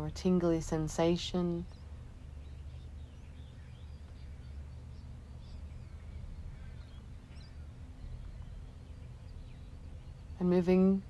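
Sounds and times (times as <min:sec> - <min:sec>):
steady low hum: 0:00.0 - 0:11.0
faint bird chirps: 0:00.8 - 0:11.0.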